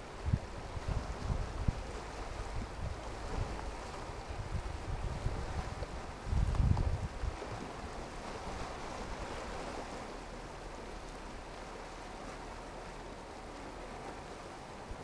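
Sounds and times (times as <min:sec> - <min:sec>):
waves washing over rocks: 0:00.0 - 0:15.0
wind rumble on microphone: 0:00.0 - 0:15.0.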